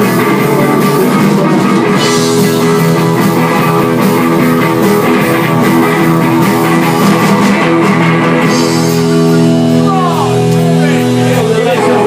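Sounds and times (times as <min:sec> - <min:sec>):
drum kit: 0:00.0 - 0:12.0
electric guitars: 0:00.0 - 0:12.0
keyboard: 0:00.0 - 0:12.0.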